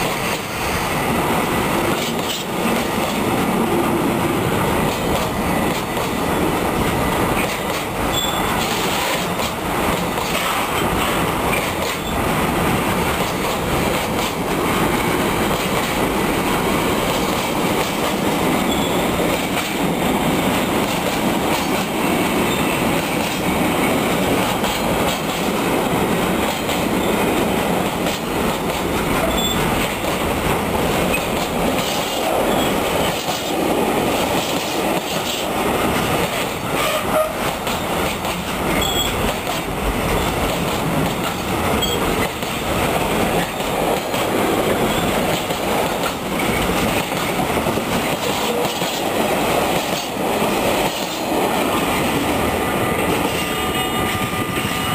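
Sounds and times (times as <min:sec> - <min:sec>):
freight train wheels clattering: 0:00.0 - 0:54.9.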